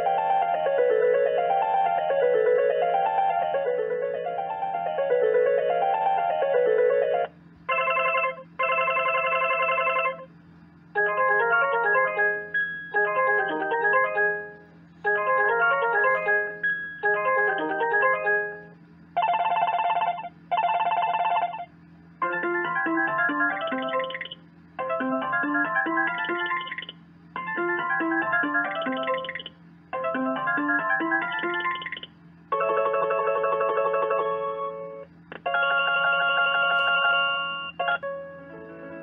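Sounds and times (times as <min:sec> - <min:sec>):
ringtone melody: 0:00.0 - 0:08.4, 0:11.0 - 0:14.5, 0:15.1 - 0:18.6, 0:22.2 - 0:38.2.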